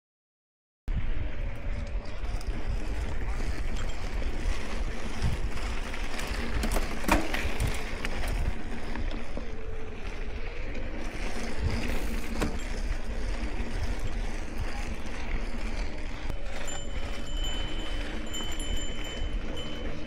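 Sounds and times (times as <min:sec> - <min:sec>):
wind buffeting microphone: 0:00.9 - 0:20.0
bike rattling over bumps: 0:01.0 - 0:20.0
tyres rumbling on dirt: 0:01.1 - 0:20.0.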